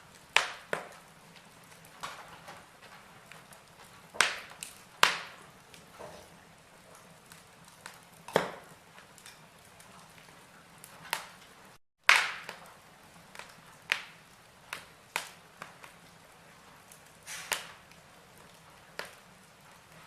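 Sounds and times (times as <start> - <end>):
faint steady hiss: 0.0 - 20.0
logs crackling in fireplace: 0.0 - 20.0.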